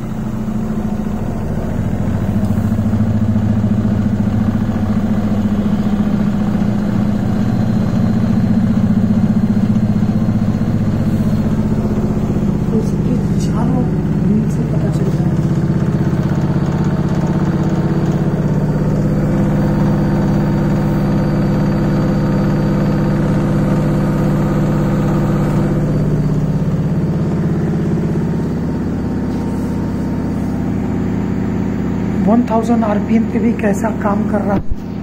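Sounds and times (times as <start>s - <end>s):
washing machine spinning: 0.0s - 35.0s.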